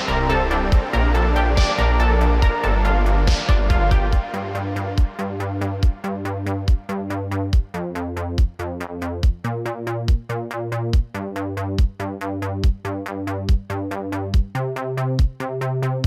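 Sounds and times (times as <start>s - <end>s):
electronic music with drum-machine beat: 0.0s - 16.0s.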